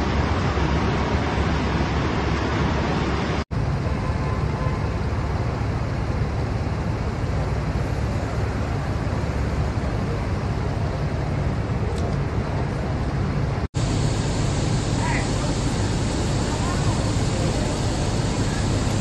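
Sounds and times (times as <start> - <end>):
traffic rumble on city street: 0.0 - 19.0.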